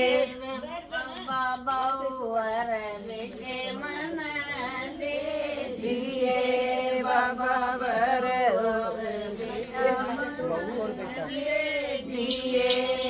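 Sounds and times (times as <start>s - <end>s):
women singing unaccompanied: 0.0s - 13.0s.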